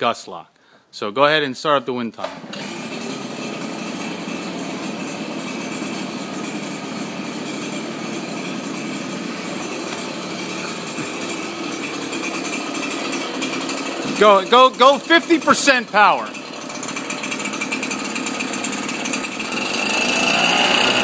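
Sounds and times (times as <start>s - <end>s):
leaf blower engine idling: 2.2s - 21.0s.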